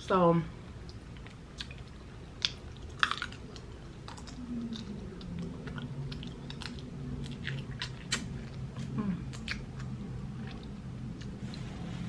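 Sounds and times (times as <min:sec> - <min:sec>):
chewing and lip-smacking: 0:00.7 - 0:11.7
sharp wet clicks: 0:00.8 - 0:11.4.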